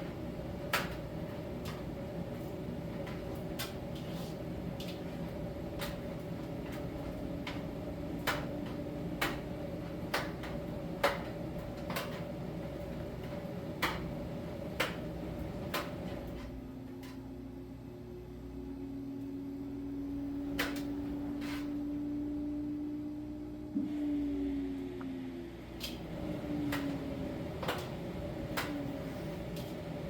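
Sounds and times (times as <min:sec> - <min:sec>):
tumble dryer humming: 0:00.0 - 0:30.0.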